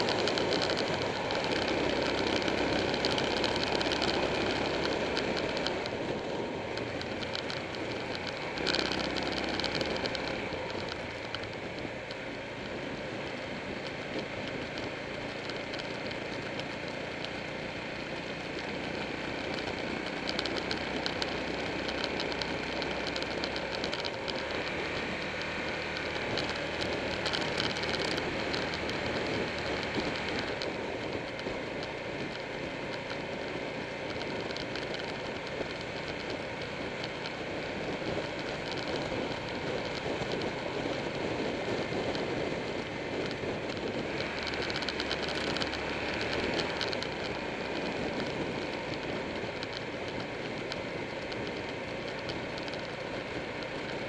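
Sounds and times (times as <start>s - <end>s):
deep engine hum: 0.0s - 54.0s
motorcycle engine at road speed: 0.0s - 54.0s
wind rush on microphone: 0.0s - 54.0s.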